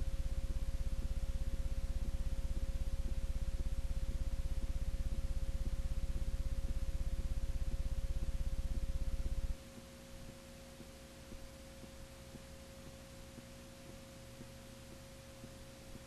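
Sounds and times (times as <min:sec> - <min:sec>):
faint hum: 0:00.0 - 0:16.0
low electrical buzz: 0:00.0 - 0:16.0.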